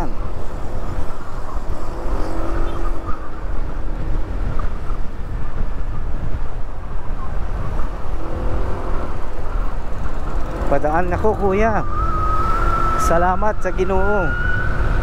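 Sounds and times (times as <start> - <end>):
motorcycle engine drone: 0.0 - 15.0
wind rushing over microphone: 0.0 - 15.0.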